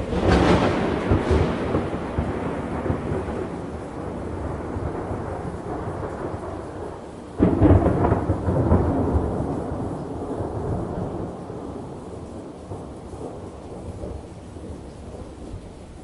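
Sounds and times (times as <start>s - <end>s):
steady rain hiss: 0.0s - 16.0s
thunder rolling: 0.0s - 16.0s.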